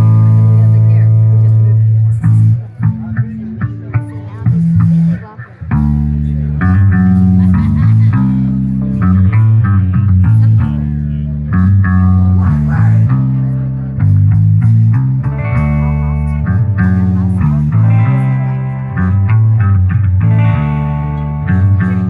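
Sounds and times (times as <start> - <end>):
electric bass: 0.0 - 22.0
electric guitars: 0.0 - 22.0.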